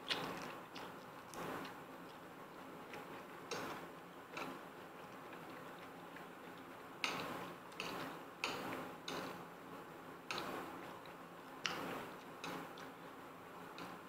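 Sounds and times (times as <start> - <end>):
quiet chewing: 0.0 - 9.4, 10.3 - 14.0.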